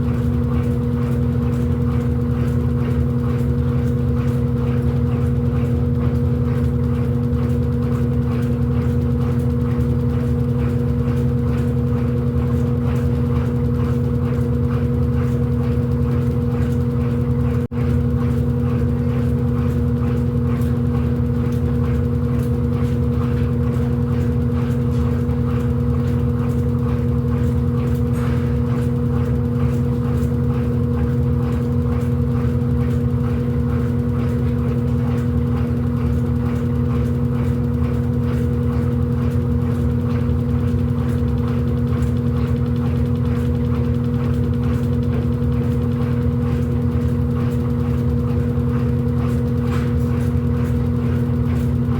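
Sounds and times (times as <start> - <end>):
washing machine motor hum: 0.0 - 51.9.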